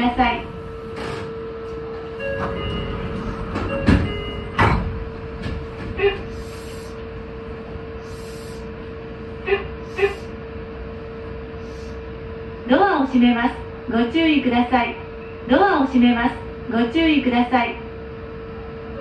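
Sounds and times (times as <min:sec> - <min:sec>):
train electrical hum: 0:00.0 - 0:19.0.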